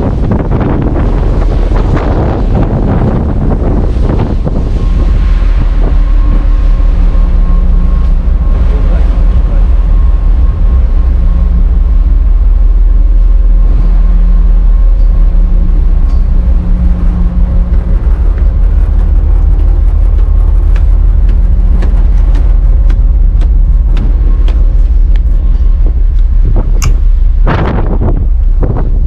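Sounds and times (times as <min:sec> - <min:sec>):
ship's steady hum: 0:00.0 - 0:29.0
wind buffeting microphone: 0:00.0 - 0:29.0.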